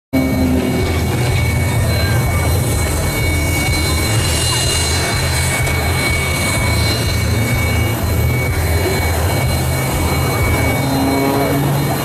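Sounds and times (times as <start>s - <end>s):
jet engines whining and rumbling: 0.1s - 12.0s.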